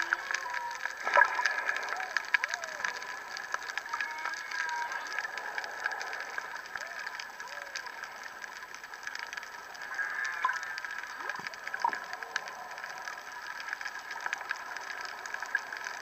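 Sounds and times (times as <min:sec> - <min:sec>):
crackle of fine clicks and hiss: 0:00.0 - 0:16.0
whale calls underwater: 0:00.0 - 0:16.0.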